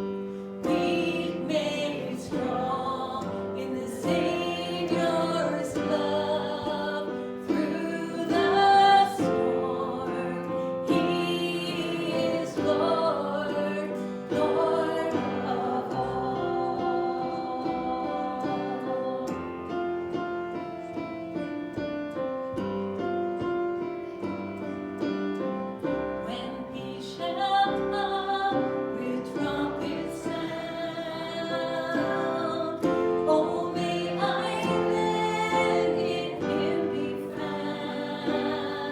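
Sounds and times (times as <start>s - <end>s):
congregation singing a hymn: 0.0s - 38.9s
piano accompaniment: 0.0s - 38.9s.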